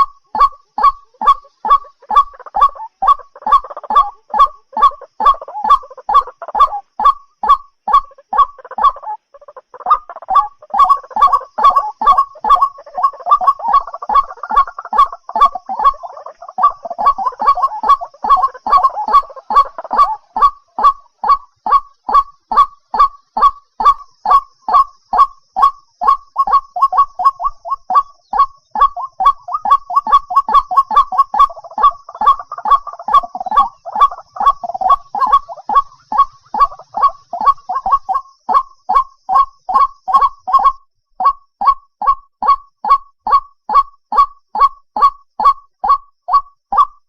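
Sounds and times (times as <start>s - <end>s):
waterhen calling: 0.0s - 46.9s.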